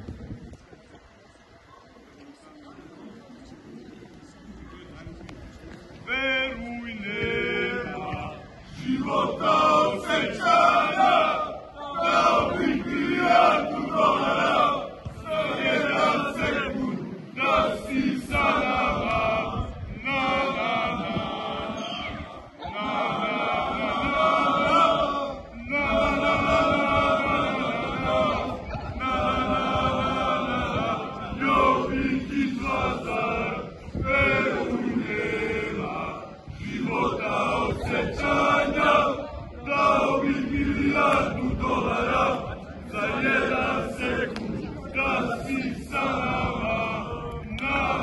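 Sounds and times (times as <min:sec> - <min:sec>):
men chanting in unison: 0:06.2 - 0:21.9, 0:22.7 - 0:48.0.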